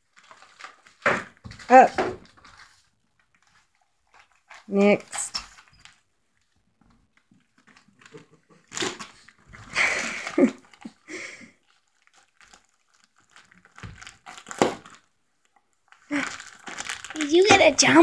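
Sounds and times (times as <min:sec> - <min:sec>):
dog tearing wrapping paper: 0:00.1 - 0:06.1, 0:07.4 - 0:15.1, 0:15.9 - 0:18.0.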